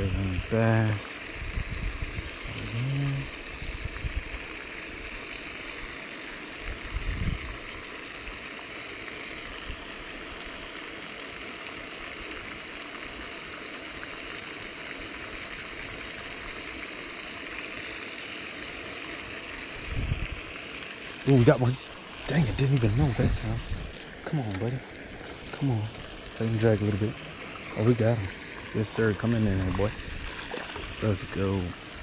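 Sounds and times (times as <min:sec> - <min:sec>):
fountain water splashing: 0:00.0 - 0:32.0.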